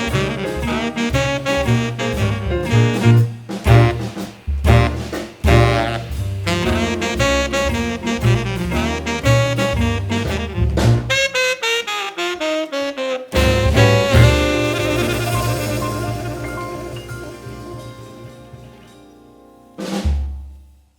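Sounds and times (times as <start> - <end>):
bass: 0.0 - 11.3, 13.4 - 20.8
saxophone lead: 0.0 - 18.9
drums: 0.0 - 20.9.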